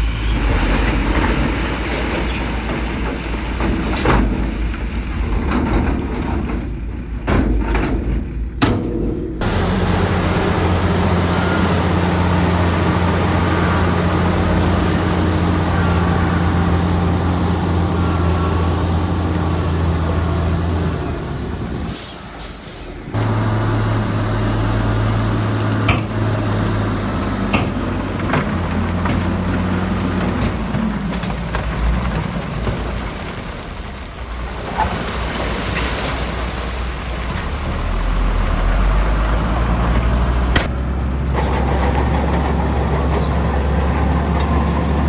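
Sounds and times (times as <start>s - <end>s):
heavy diesel engine under load: 0.0s - 45.0s.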